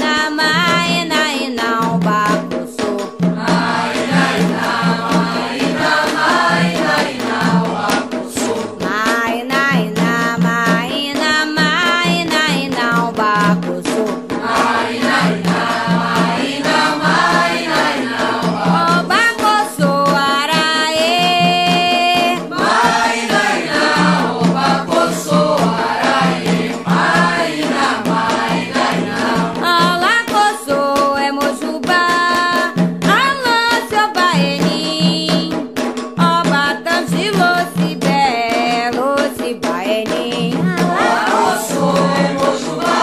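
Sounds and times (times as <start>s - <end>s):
voices singing together: 0.0s - 34.6s, 36.4s - 39.2s, 40.3s - 43.0s
steady percussion rhythm: 0.0s - 43.0s.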